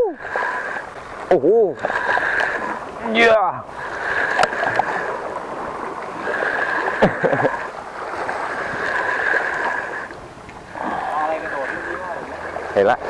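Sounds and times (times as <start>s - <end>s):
sea water sloshing around rocks: 0.0s - 13.0s.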